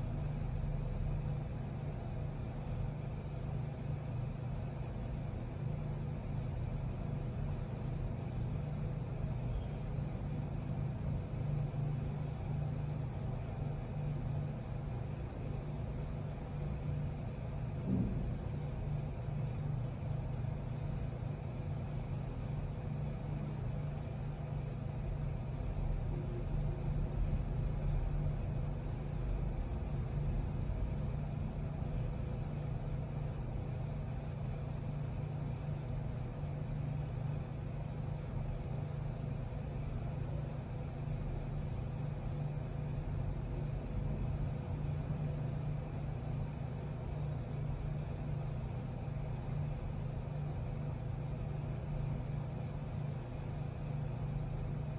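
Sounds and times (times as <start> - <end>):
faint steady tone: 0.0 - 54.9
low hum and rumble: 0.0 - 54.9.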